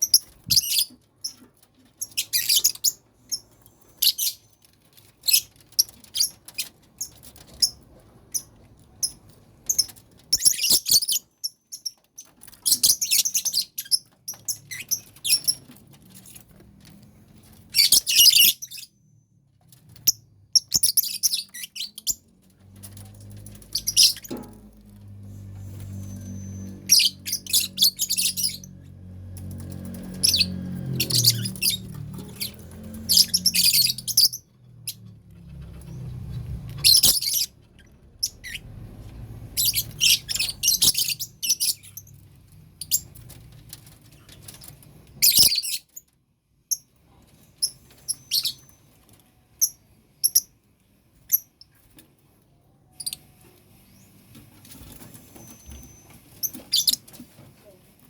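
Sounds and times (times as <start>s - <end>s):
lovebirds chirping and squawking: 0.0s - 19.0s, 19.7s - 46.1s, 46.7s - 52.0s, 53.0s - 57.5s.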